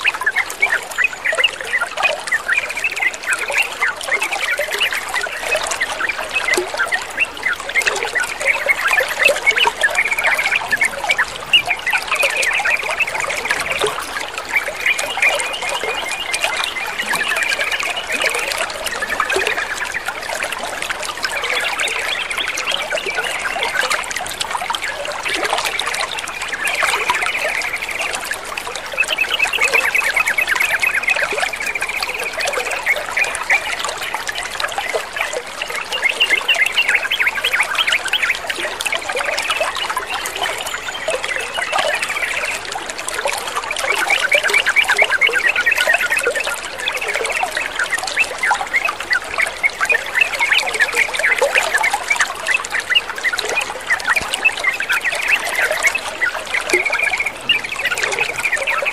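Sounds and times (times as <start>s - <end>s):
rapid gurgling ticks: 0.0s - 58.9s
water trickling and babbling: 0.0s - 58.9s.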